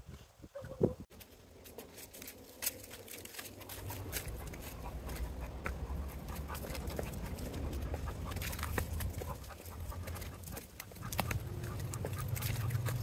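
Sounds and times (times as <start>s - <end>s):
footsteps crunching dry leaves: 1.1s - 13.0s
low rumble: 1.6s - 13.0s.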